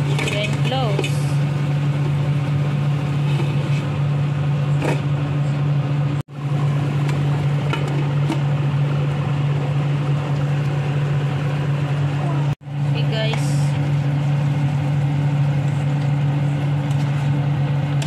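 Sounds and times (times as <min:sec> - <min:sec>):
kitchen fan humming: 0:00.0 - 0:18.0.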